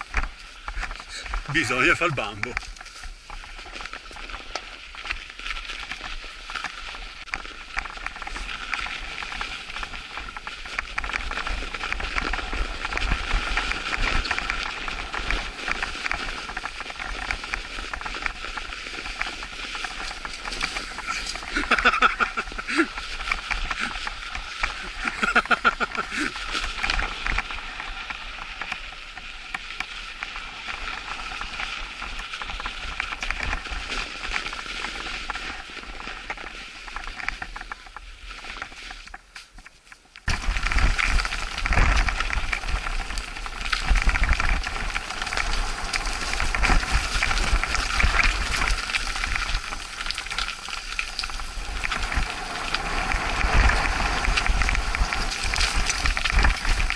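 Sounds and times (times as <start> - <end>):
bike rattling over dirt trail: 0.0 - 56.9
bike tyres crunching over snow: 0.0 - 56.9
wind rumble on microphone: 0.0 - 56.9.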